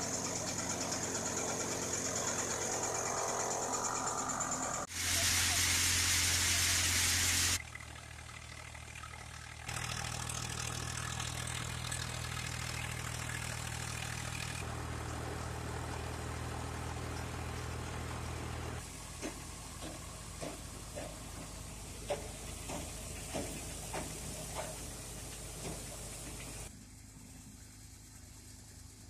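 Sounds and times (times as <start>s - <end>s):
tractor diesel engines running: 0.0s - 29.0s.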